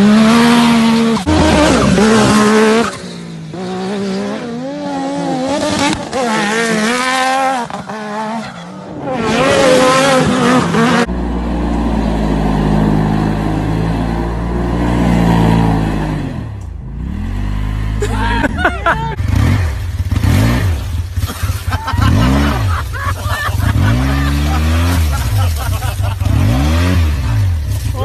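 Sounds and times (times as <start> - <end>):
engines revving hard: 0.0 - 28.0.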